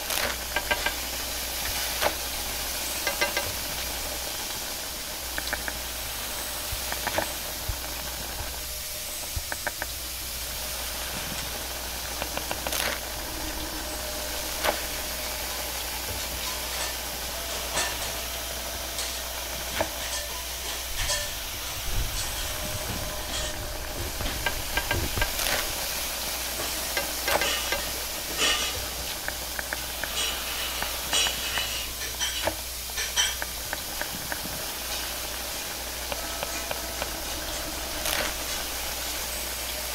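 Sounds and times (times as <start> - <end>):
metal utensils clanking against a pan: 0.0 - 39.9
noodles sizzling in a wok: 0.0 - 39.9.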